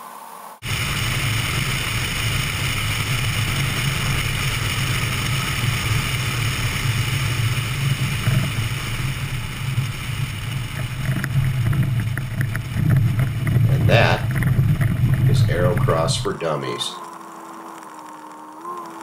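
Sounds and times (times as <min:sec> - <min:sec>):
wind rushing over camera: 0:00.0 - 0:19.0
light aircraft engine and propeller: 0:00.6 - 0:17.2.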